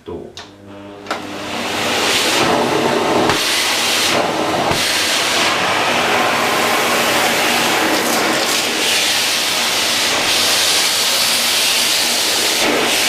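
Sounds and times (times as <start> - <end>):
vacuum cleaner air rushing: 0.6 - 13.0.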